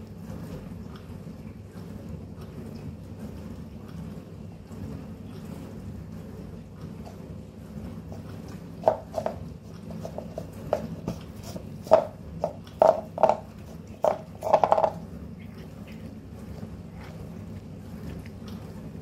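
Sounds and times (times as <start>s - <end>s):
cat licking paper tub: 0.0s - 19.0s.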